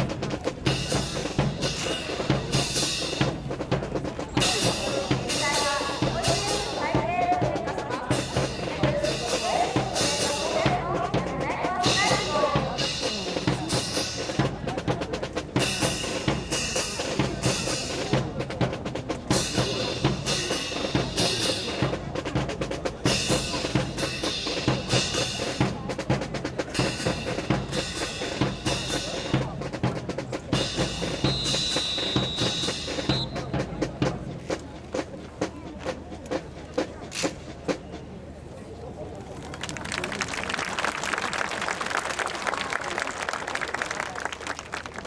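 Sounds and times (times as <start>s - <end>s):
marching snare and bass drums: 0.0s - 42.5s.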